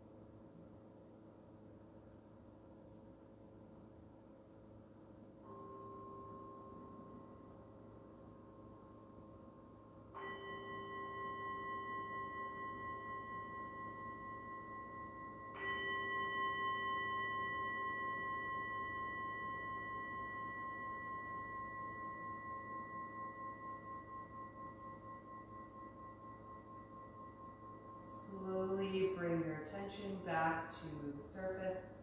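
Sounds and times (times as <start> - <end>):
singing bowl ringing: 5.4 - 32.0.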